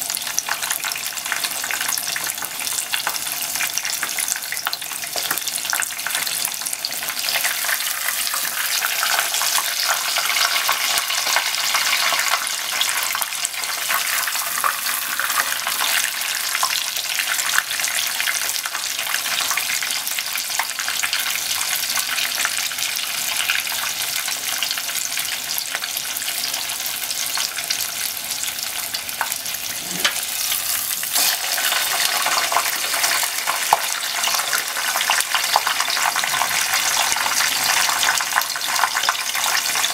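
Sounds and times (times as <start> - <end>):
cutlet deep-frying in oil: 0.0 - 39.9.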